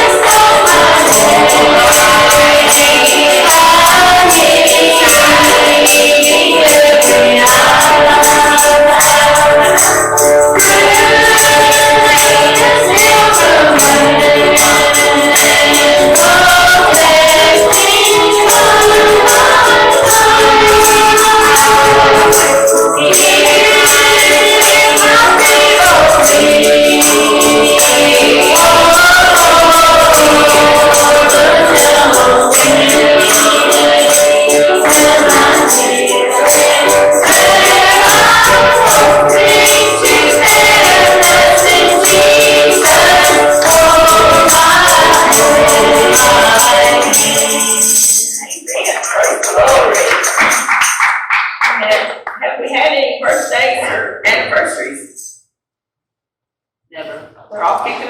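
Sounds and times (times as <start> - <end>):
choir singing gospel: 0.0 - 51.0
tambourine jingling: 0.0 - 52.1.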